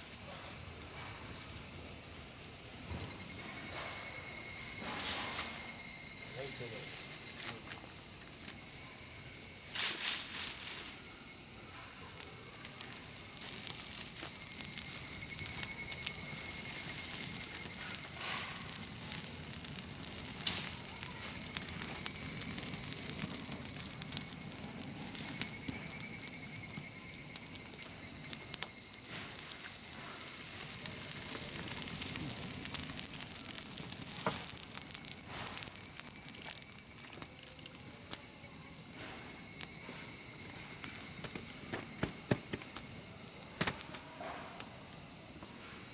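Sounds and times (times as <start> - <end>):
insects chirping: 0.0 - 45.9
campfire crackling and popping: 1.6 - 45.6.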